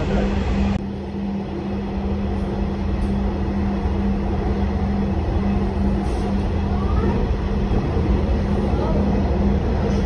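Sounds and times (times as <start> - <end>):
train rumbling inside carriage: 0.0 - 10.0.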